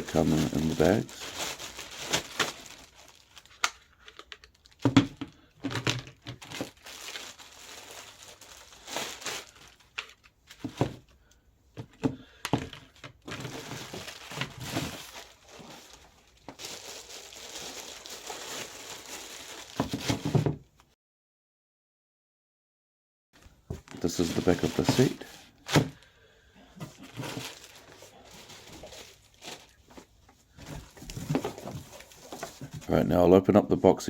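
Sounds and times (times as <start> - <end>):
plastic bags crinkling: 0.0 - 11.3, 12.2 - 20.4, 23.8 - 32.9.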